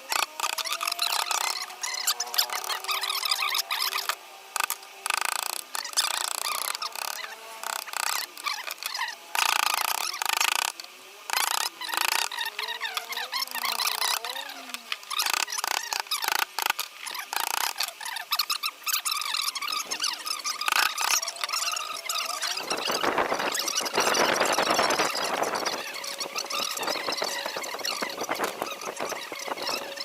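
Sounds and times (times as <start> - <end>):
squeaks: 0.0 - 30.0.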